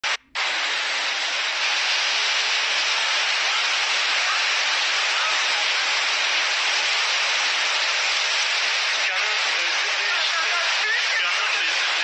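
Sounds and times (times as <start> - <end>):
heavy rain on a roof: 0.0 - 12.0.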